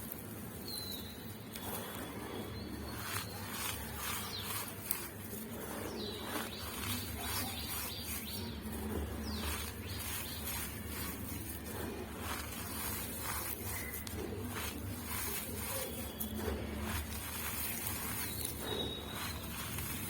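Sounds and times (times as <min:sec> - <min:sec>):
charcoal powder crunching by hand: 0:00.0 - 0:20.0
steady low hum: 0:01.3 - 0:20.0.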